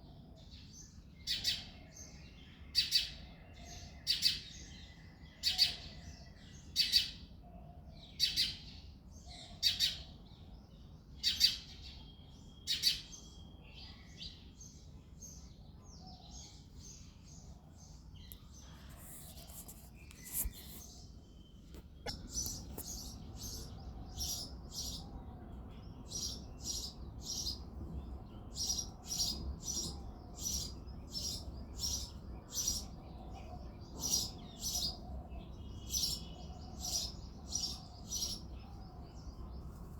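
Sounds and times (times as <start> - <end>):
sparrow chirping: 0.8 - 6.0, 8.1 - 39.9.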